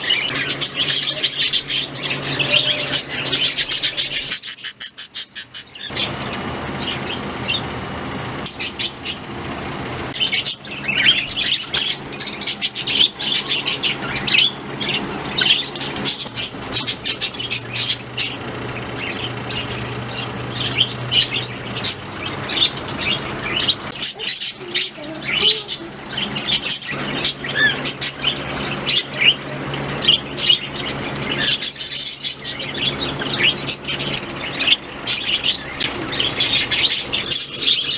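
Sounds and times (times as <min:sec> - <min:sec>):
budgerigars chirping and squawking: 0:00.0 - 0:37.9.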